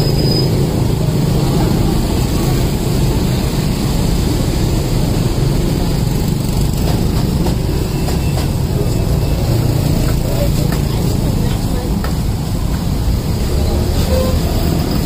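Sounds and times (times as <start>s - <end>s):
engine rumbling: 0.0s - 15.0s
street noise: 0.0s - 15.0s.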